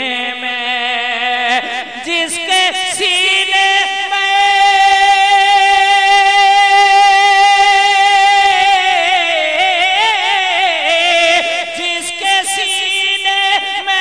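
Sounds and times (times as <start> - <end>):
man singing through loudspeakers: 0.0 - 14.0.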